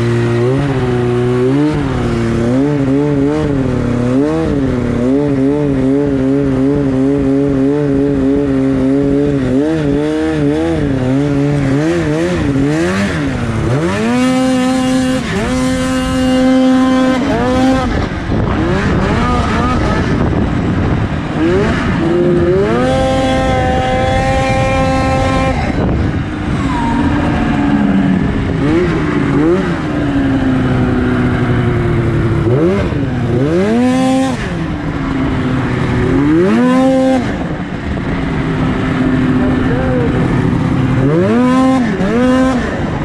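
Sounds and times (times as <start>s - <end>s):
snowmobile engine revving: 0.0s - 43.0s.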